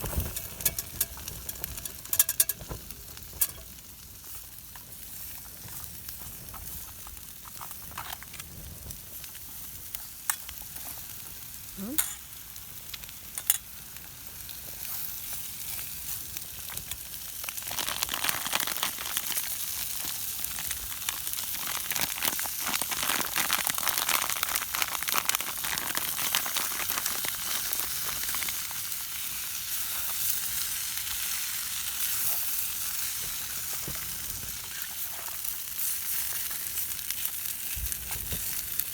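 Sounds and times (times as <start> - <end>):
stir fry sizzling in a pot: 0.0 - 38.9.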